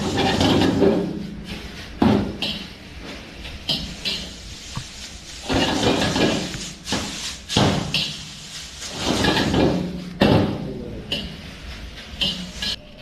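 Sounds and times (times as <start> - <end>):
noodles scraping and sizzling: 0.0 - 13.0.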